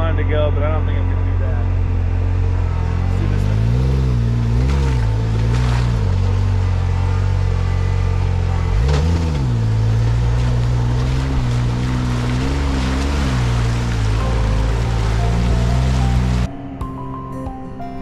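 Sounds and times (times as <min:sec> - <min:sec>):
off-road vehicle engine running: 0:00.0 - 0:17.8.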